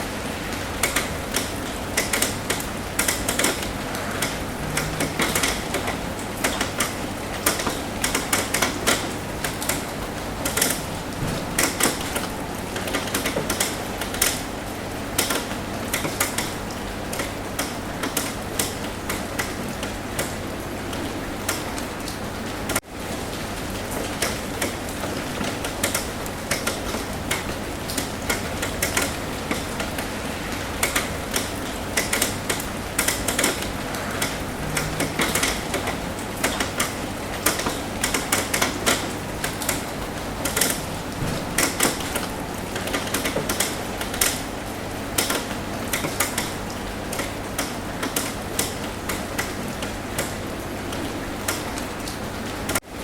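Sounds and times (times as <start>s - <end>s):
rain hissing: 0.0s - 53.0s
raindrops tapping on a roof: 0.0s - 53.0s.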